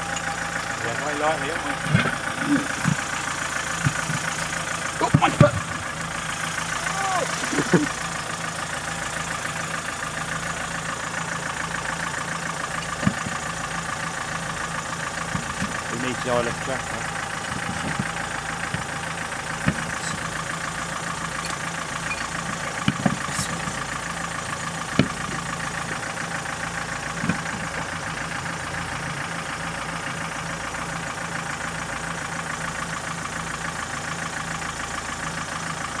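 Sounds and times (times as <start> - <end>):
vehicle engine idling: 0.0 - 36.0.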